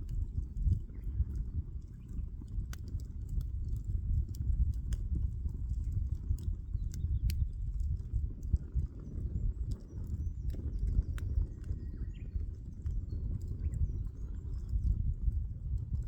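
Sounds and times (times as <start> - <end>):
campfire crackling and popping: 0.0 - 16.0
fire rumbling: 0.0 - 16.0.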